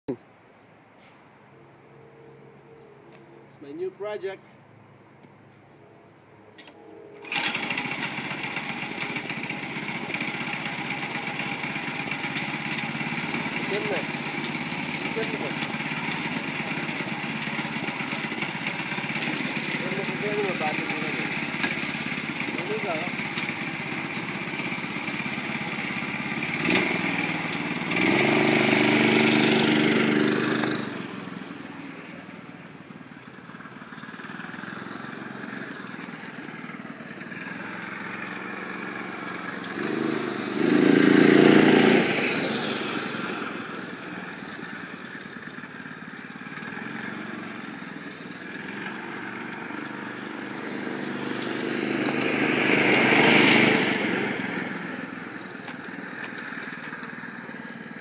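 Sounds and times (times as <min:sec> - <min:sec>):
single-cylinder engine under throttle: 0:06.6 - 0:58.0.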